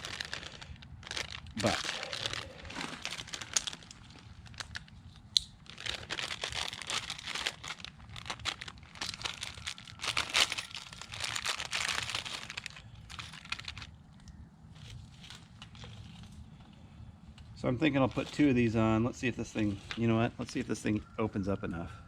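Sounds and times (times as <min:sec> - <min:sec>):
crinkling and rustling handling noise: 0:00.0 - 0:21.9.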